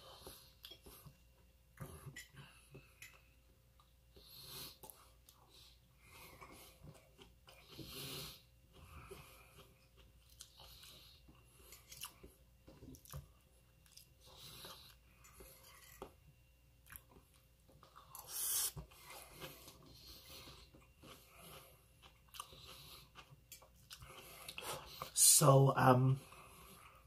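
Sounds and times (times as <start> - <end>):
person chewing soft food: 0.0 - 25.2.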